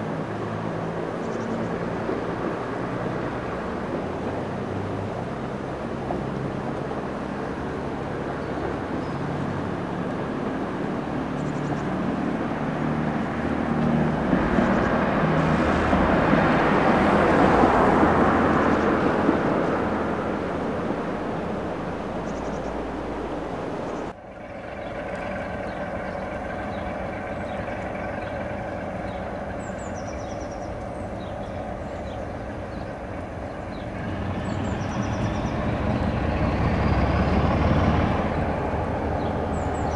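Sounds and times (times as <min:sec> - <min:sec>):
diesel train passing: 0:00.0 - 0:39.9
locomotive engine droning: 0:00.0 - 0:39.9.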